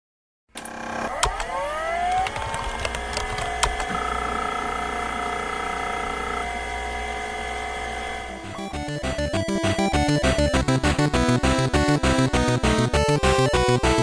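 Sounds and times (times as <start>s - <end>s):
steady machine whine: 0.6s - 13.1s.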